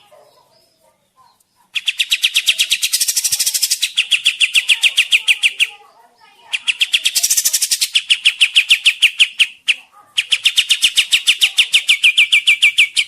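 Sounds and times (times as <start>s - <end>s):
songbird sharp repeated chirps: 0.0s - 13.0s.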